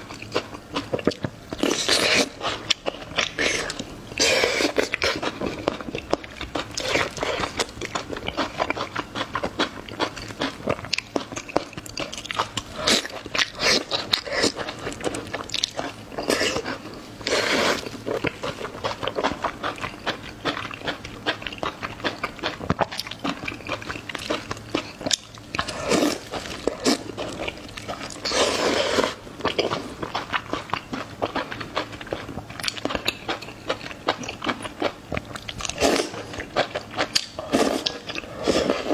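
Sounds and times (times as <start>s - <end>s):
wet chewing and crunching: 0.0s - 38.9s.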